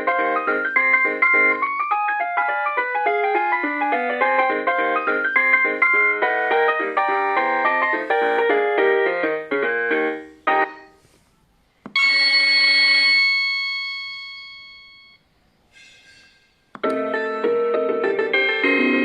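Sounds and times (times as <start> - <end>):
fast keyboard-like ringtone melody: 0.0 - 10.9, 11.9 - 15.2, 16.8 - 19.0.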